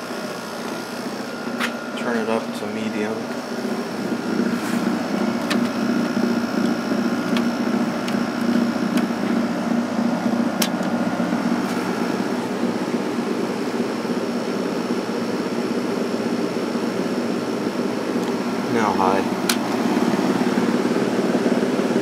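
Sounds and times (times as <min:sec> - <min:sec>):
window air conditioner humming: 0:00.0 - 0:22.0.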